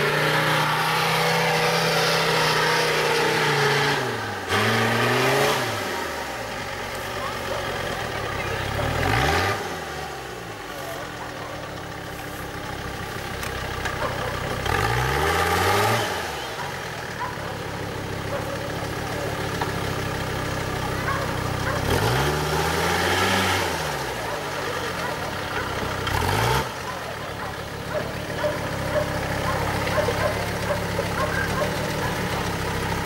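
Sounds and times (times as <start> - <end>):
off-road engine revving: 0.0 - 33.0.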